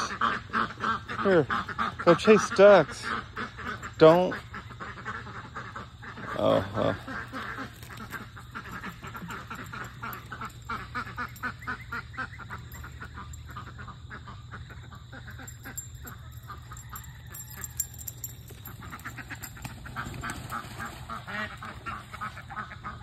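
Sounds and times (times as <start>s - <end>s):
ducks quacking: 0.0s - 17.0s, 18.7s - 23.0s.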